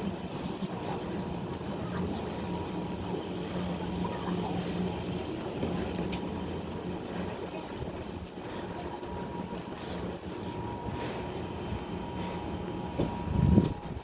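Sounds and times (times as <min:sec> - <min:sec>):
constant low hum: 0:00.0 - 0:14.0
low rumble of vehicles: 0:00.0 - 0:14.0.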